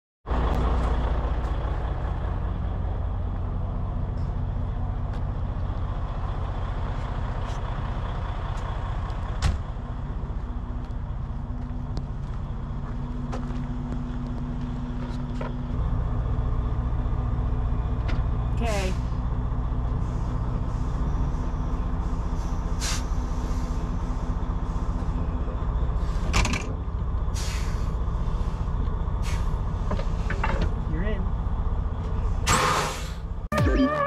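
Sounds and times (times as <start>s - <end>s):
truck diesel engine idling: 0.3s - 34.0s.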